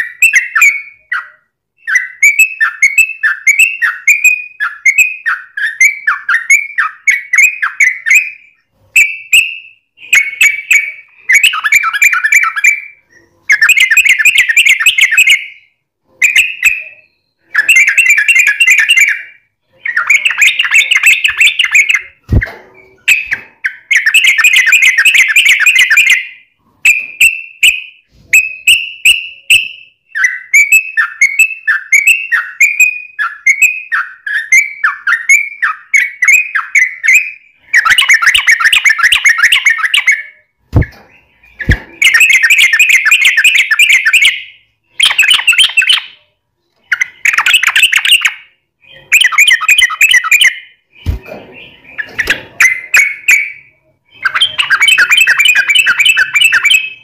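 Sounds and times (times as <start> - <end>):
bird singing chattering notes: 0.0 - 27.8, 28.4 - 46.2, 46.8 - 57.0.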